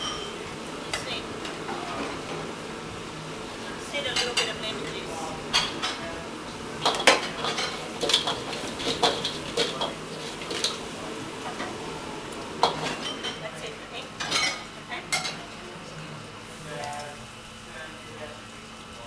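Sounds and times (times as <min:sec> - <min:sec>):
food sizzling: 0:00.0 - 0:15.6.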